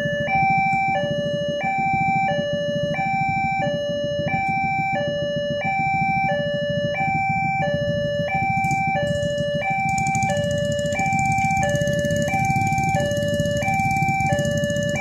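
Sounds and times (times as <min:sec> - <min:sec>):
motorcycle engines idling: 0:00.0 - 0:15.0
two-tone crossing alarm: 0:00.0 - 0:15.0.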